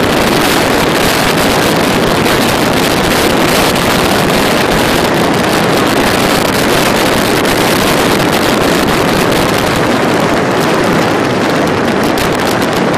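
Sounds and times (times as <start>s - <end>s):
motorcycle engine running: 0.0s - 12.9s
wind rushing on microphone: 0.0s - 12.9s.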